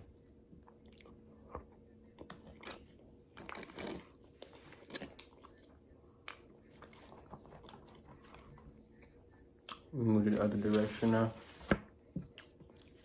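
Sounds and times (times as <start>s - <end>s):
person chewing food: 0.0s - 9.9s, 12.1s - 13.0s.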